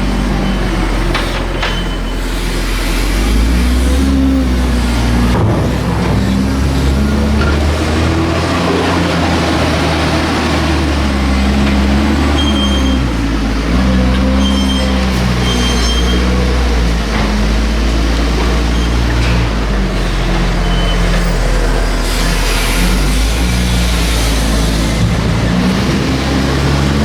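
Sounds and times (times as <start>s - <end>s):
diesel tractor engines revving: 0.0s - 27.0s.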